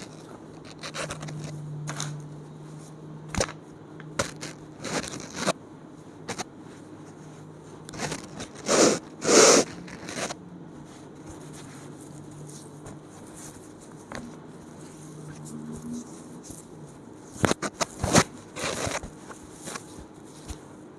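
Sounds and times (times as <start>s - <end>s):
rustling and scraping: 0.0s - 20.9s.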